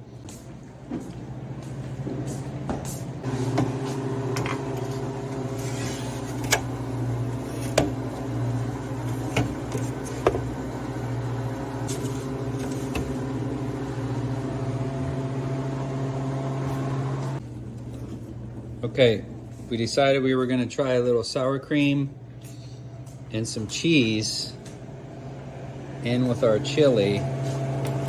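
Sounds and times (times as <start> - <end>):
compressor humming: 0.0 - 28.0.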